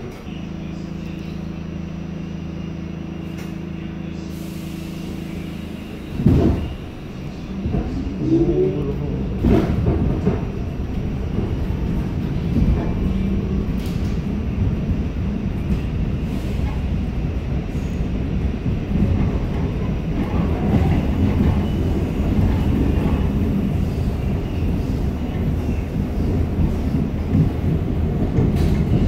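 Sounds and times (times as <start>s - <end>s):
subway train rumbling on track: 0.0s - 29.0s.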